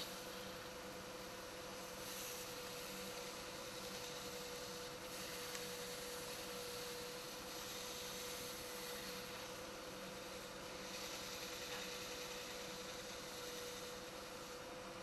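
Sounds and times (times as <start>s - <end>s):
light hiss: 0.0s - 15.0s
wood lathe motor whine: 0.0s - 15.0s.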